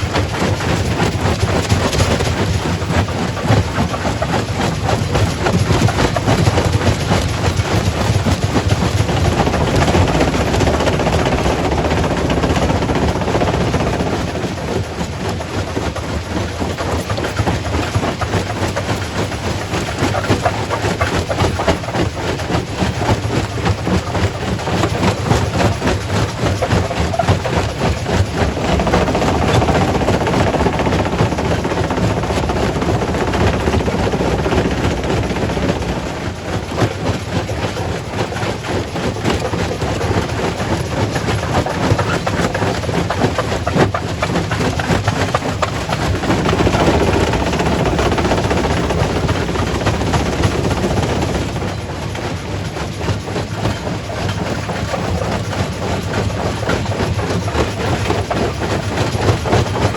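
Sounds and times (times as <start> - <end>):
rock crusher drone: 0.0 - 51.9.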